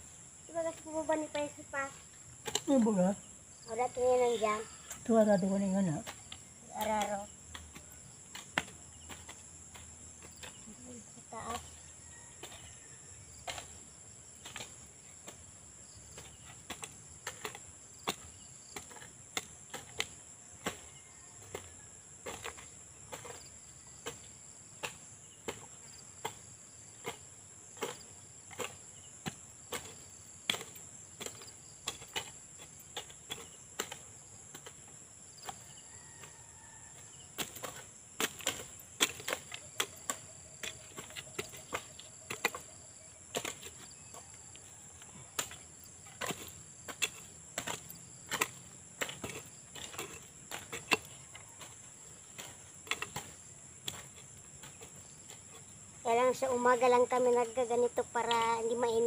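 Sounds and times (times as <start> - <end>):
insect chorus: 0.0 - 59.0
hoe chopping into soil: 2.3 - 3.1, 6.0 - 10.7, 11.4 - 56.0.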